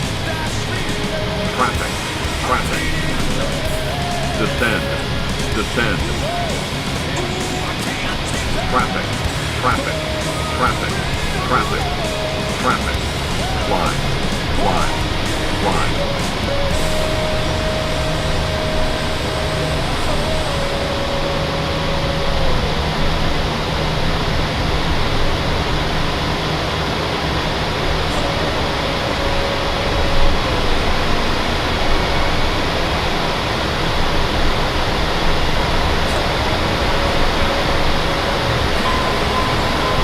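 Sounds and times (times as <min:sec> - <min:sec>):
jet engine and airflow rush: 0:00.0 - 0:40.0.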